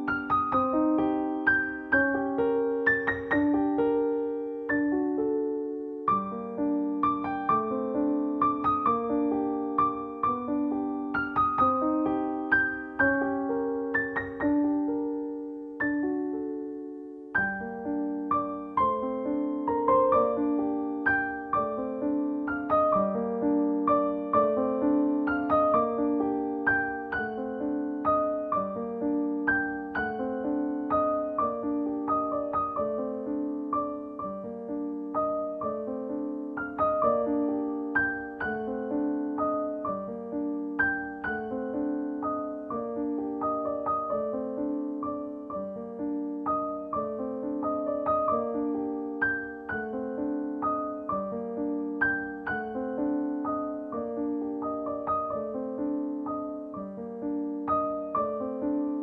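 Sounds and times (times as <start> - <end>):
gentle piano music: 0.0 - 59.0.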